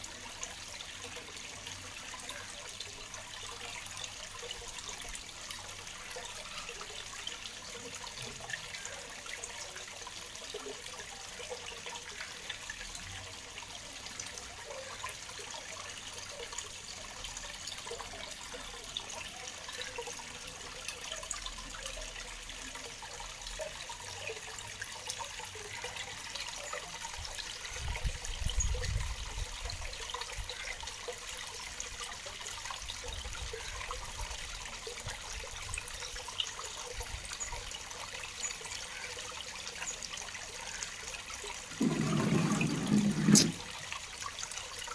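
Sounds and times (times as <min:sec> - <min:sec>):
waterfall splashing and trickling: 0:00.0 - 0:44.9.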